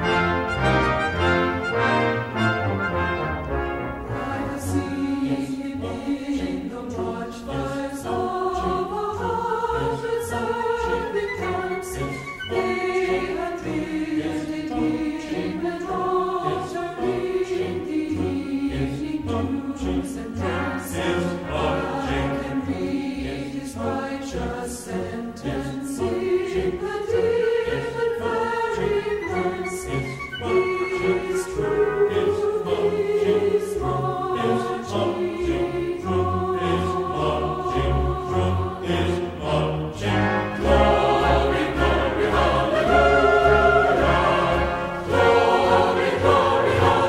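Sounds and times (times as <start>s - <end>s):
choir singing long held notes: 0.0s - 47.0s.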